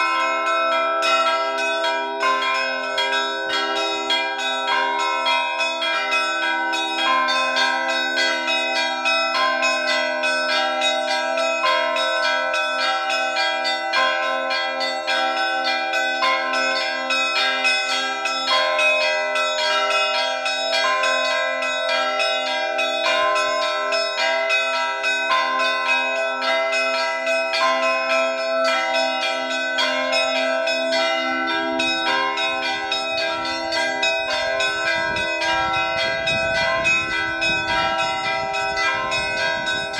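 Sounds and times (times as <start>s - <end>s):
heavy bells ringing: 0.0s - 39.9s
small bells struck rapidly: 0.0s - 39.9s.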